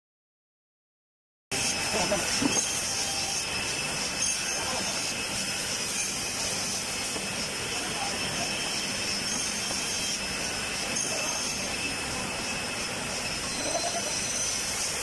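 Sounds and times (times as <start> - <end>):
woodworking machine rushing: 1.5 - 15.0
faint high whines: 1.6 - 15.0.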